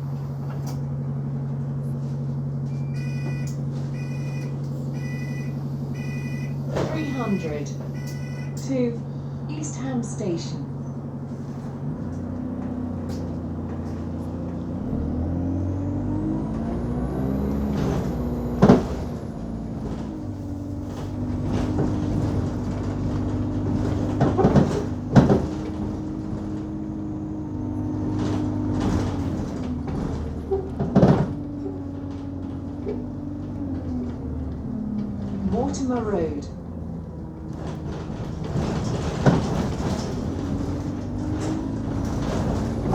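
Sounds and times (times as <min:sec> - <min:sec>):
bus diesel engine running: 0:00.0 - 0:42.9.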